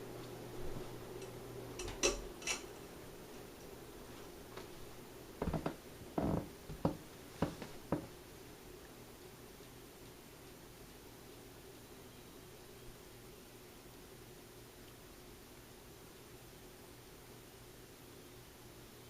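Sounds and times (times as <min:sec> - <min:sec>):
ceiling fan running: 0:00.0 - 0:19.0.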